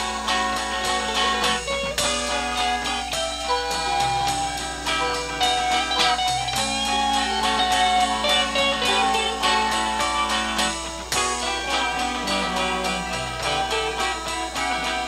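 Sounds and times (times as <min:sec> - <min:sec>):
guitar-led rock band playing: 0:00.0 - 0:15.0.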